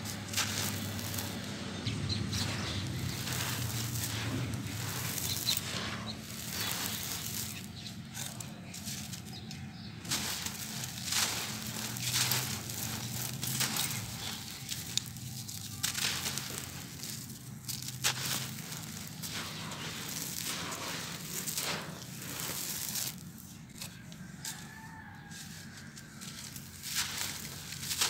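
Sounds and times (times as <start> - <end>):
gritty crunches of crumbling mix: 0.0 - 28.0
sandy rustle of falling powder: 0.0 - 28.0.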